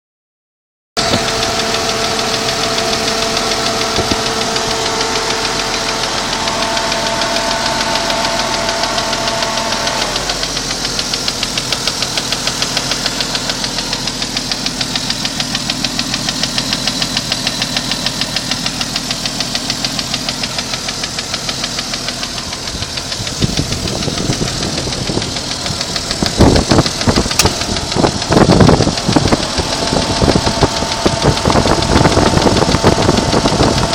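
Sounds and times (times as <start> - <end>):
car engine running: 1.0 - 33.9
fast even engine ticking: 1.0 - 33.9
loud irregular noises: 1.0 - 33.9.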